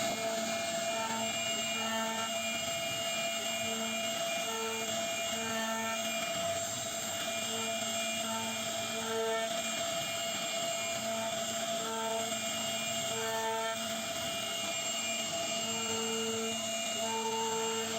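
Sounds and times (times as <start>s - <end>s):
cnc router whine and hiss: 0.0s - 17.9s.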